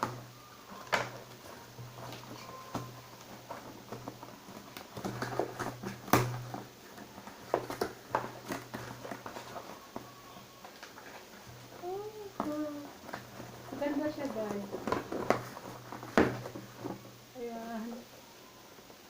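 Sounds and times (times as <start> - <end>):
packaging clicks and rustles: 0.0 - 17.2.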